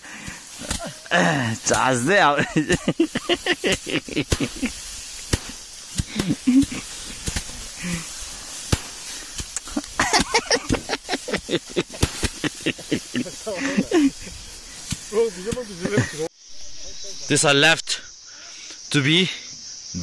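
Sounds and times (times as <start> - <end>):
rice sheaves beaten by hand: 0.0 - 16.2
dry straw rustling: 0.0 - 17.2
voices: 0.0 - 20.0
grain scattering: 0.2 - 16.3.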